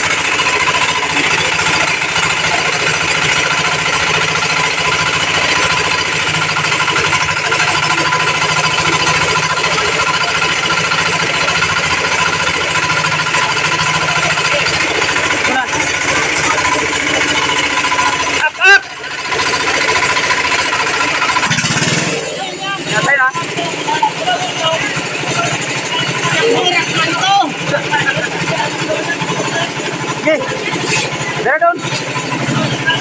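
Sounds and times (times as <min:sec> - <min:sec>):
diesel engine running under load: 0:00.0 - 0:33.0
stripping machine high tone: 0:00.0 - 0:33.0.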